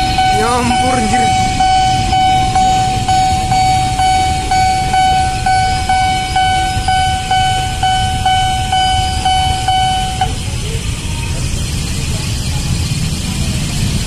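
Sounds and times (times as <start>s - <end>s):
level crossing warning bell: 0.0s - 11.4s
electric train rumble: 0.0s - 14.0s.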